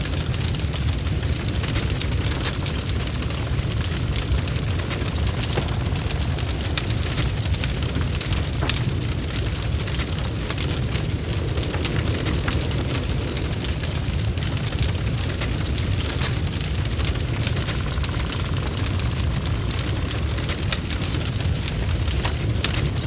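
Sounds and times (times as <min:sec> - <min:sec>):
bonfire crackling and popping: 0:00.0 - 0:23.0
low rumble of flames: 0:00.0 - 0:23.0.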